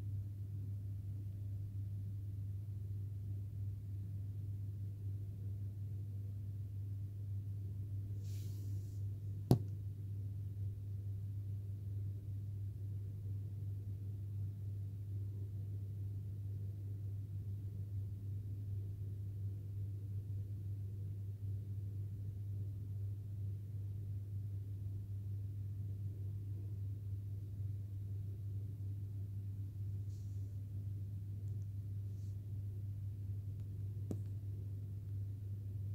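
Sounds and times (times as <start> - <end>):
low room hum: 0.0 - 35.9.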